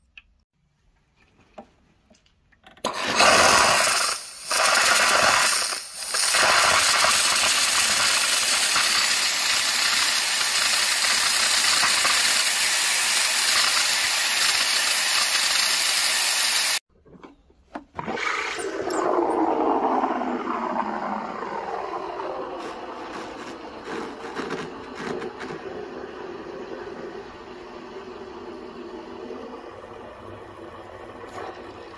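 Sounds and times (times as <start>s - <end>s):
steam wand hissing: 2.9s - 16.8s, 18.2s - 30.2s
steam wand whine in milk: 2.9s - 16.8s, 18.0s - 31.9s.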